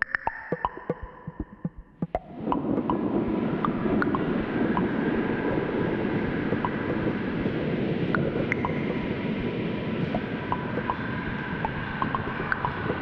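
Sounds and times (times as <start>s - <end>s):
dense rumbling noise: 0.6s - 13.0s.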